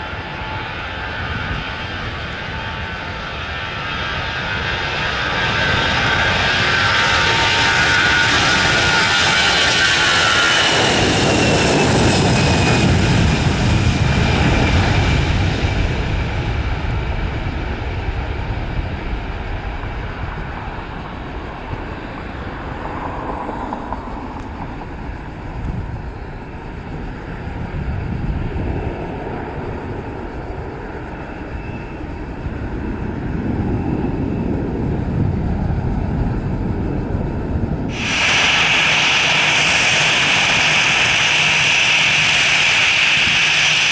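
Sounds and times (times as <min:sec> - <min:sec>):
jet engine roar: 0:00.0 - 0:43.9
jet engine whine: 0:00.0 - 0:43.9.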